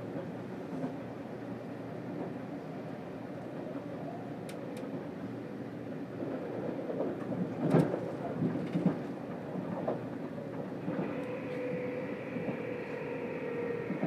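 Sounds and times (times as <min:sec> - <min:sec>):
low train rumble: 0:00.0 - 0:14.0.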